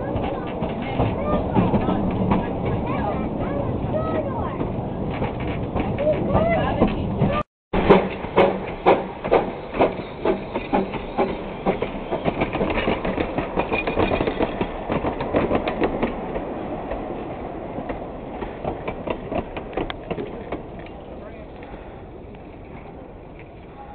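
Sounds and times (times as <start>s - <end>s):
train wheels clacking over rail joints: 0.0s - 17.2s, 17.8s - 23.6s
steady train rumble: 0.0s - 23.9s.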